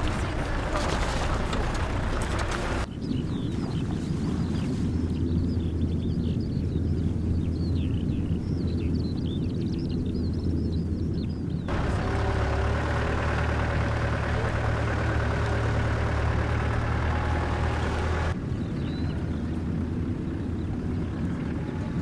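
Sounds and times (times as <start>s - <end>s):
birdsong: 0.0s - 22.0s
vehicle engine running low: 0.0s - 22.0s.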